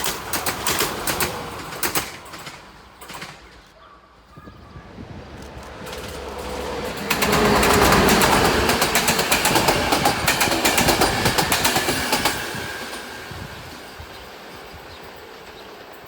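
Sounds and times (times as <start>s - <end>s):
train wheels clacking over rails: 0.0s - 3.8s, 5.2s - 16.0s.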